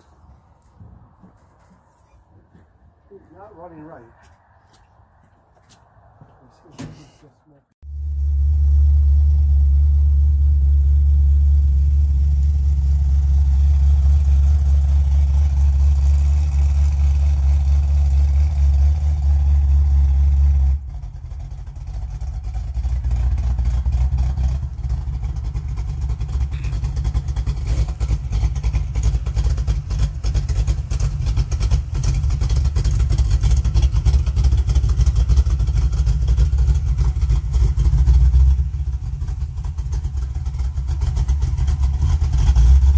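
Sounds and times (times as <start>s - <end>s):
pickup truck engine running: 7.9s - 42.9s.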